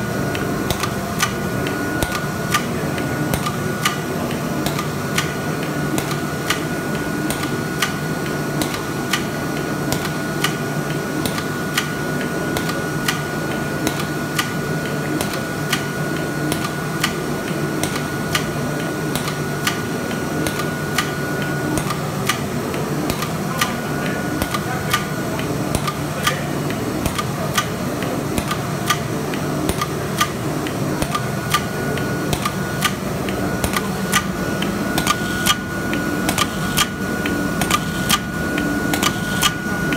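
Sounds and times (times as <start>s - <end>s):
machinery hum: 0.0s - 39.9s
sharp machine clicks: 0.3s - 39.9s.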